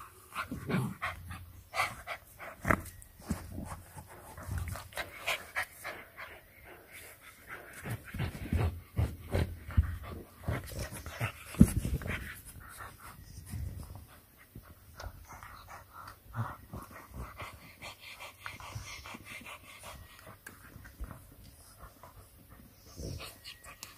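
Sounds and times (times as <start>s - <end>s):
puppy panting: 0.2s - 23.9s.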